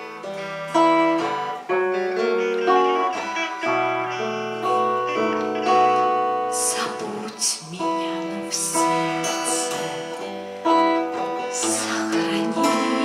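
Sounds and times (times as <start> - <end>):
guitar melody over chords: 0.0 - 13.0.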